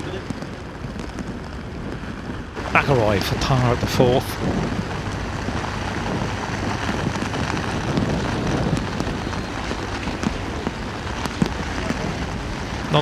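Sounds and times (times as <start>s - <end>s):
rain falling: 0.0s - 13.0s
wind buffeting microphone: 0.0s - 13.0s.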